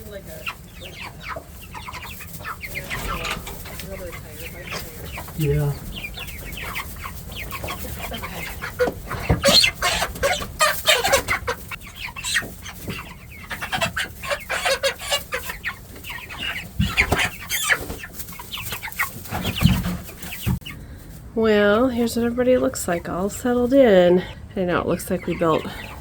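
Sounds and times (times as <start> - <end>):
chickens calling: 0.0 - 26.0.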